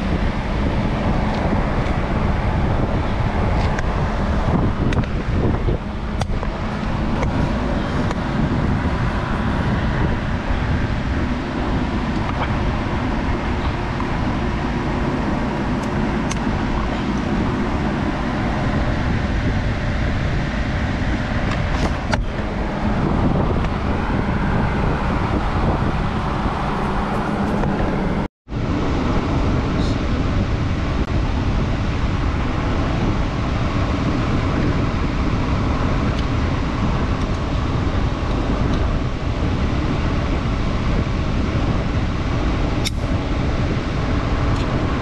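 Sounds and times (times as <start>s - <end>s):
drum fan rushing drone: 0.0s - 45.0s.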